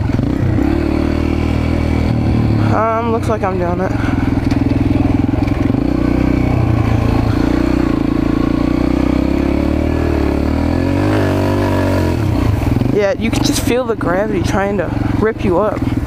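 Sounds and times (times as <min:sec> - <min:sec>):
small bike engine under load: 0:00.0 - 0:16.0.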